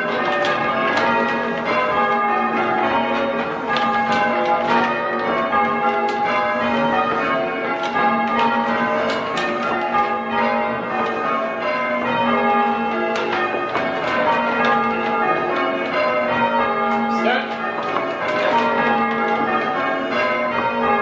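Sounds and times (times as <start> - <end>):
church bells ringing in changes: 0.0 - 21.0.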